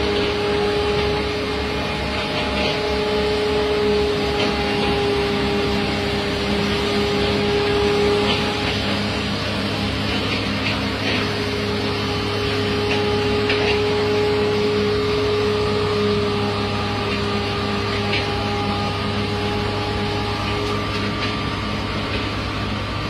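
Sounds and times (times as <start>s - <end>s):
constant whine: 0.0s - 23.0s
heavy machinery engine drone: 0.0s - 23.0s.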